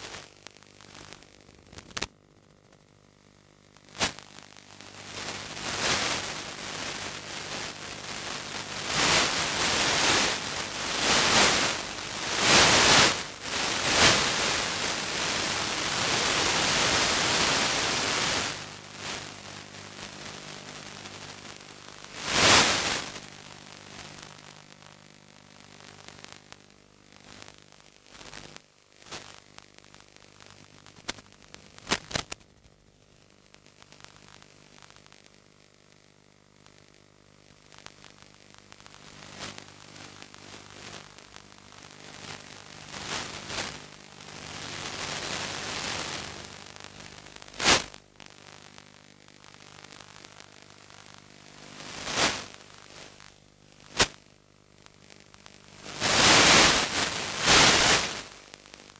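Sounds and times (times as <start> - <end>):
low electrical hum: 0.0 - 58.9
static hiss: 0.0 - 58.9.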